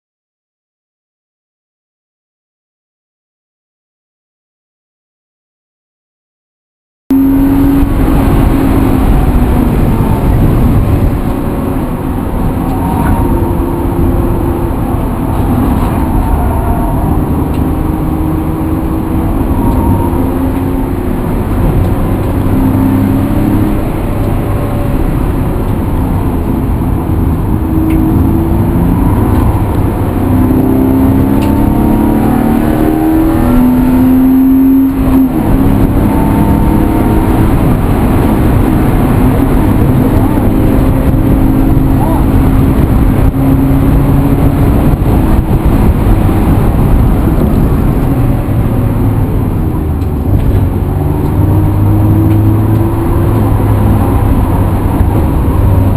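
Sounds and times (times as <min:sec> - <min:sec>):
vehicle engine running: 0:07.1 - 0:55.9.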